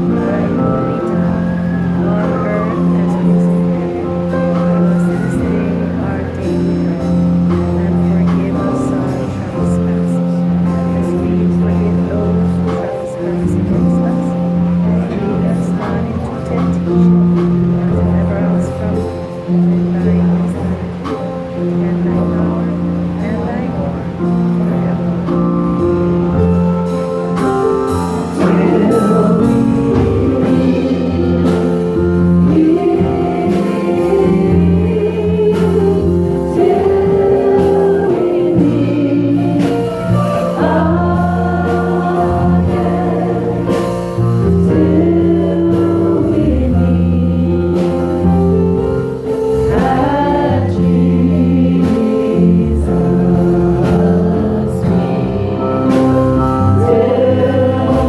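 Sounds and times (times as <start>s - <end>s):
band with bass and drums: 0.0s - 58.0s
voices singing gospel song: 0.0s - 58.0s.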